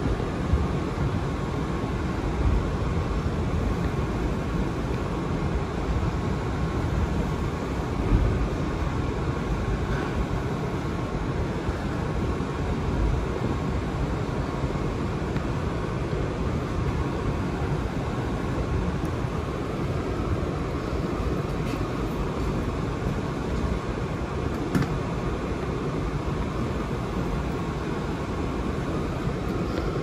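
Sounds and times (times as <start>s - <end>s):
faint steady hum: 0.0s - 30.0s
subway car rumble and hiss: 0.0s - 30.0s.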